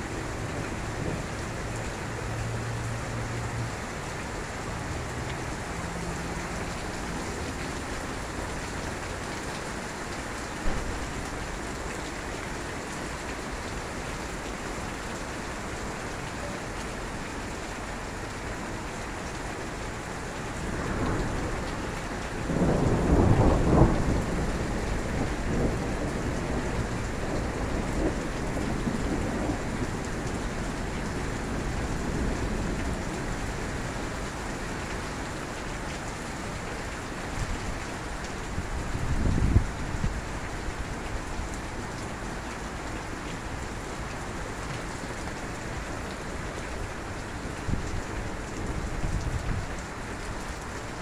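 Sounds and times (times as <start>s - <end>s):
rain and hail hitting ground: 0.0s - 51.0s.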